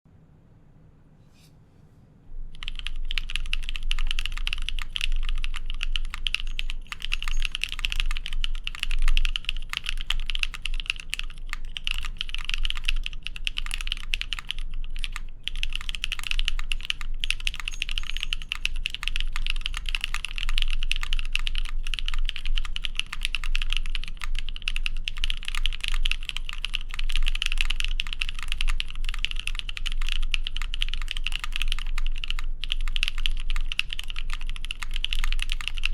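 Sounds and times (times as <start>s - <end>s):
mechanical keyboard typing: 2.5s - 35.9s.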